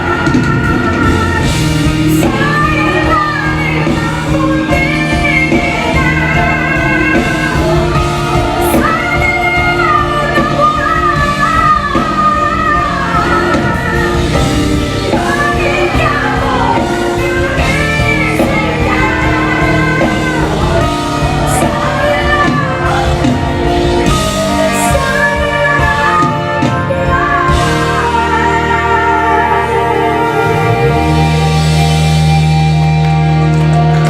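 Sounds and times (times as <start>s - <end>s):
woman singing: 0.0s - 32.8s
backing band with guitar: 0.0s - 34.0s.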